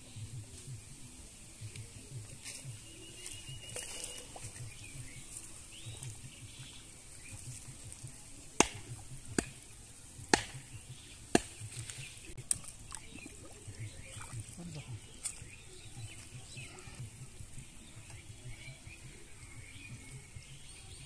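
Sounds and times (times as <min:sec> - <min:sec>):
faint high hiss: 0:00.0 - 0:21.0.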